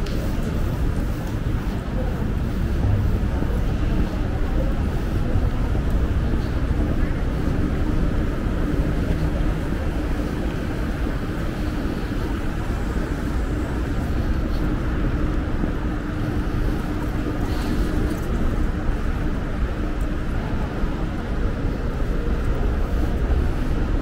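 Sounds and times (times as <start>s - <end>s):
steady hum: 0.0s - 24.0s
traffic rumble: 0.0s - 24.0s.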